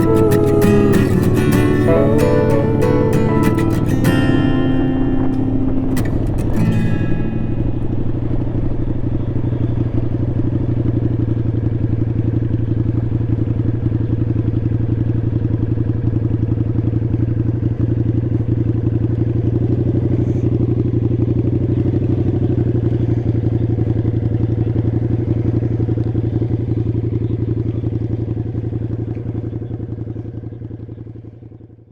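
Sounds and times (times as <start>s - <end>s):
motorcycle engine running: 3.9s - 31.9s.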